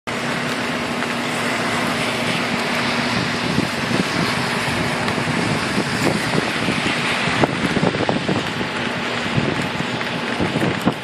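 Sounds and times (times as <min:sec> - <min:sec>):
heavy rain on roofs and street: 0:00.1 - 0:11.0.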